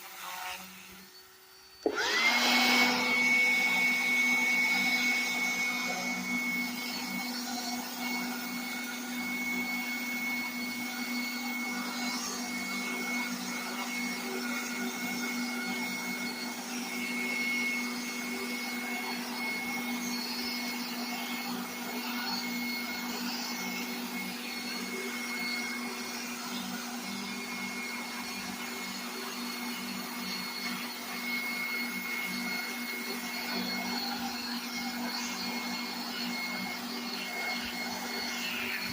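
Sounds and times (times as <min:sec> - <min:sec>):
power tool motor whine: 0:00.0 - 0:38.9.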